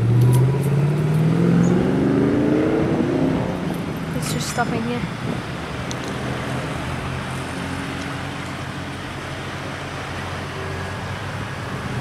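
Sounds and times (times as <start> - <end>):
road traffic: 0.0 - 12.0
tram engine hum: 0.0 - 12.0.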